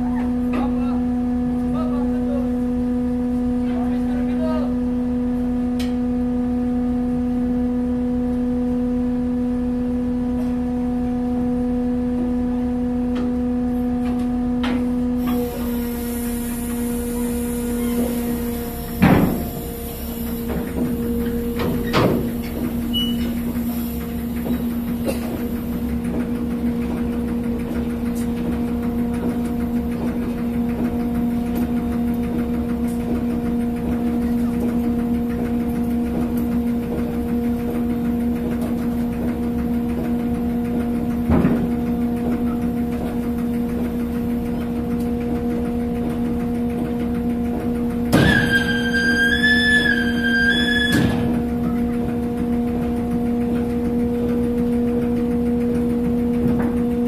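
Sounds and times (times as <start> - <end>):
ferry engines droning: 0.0 - 57.0.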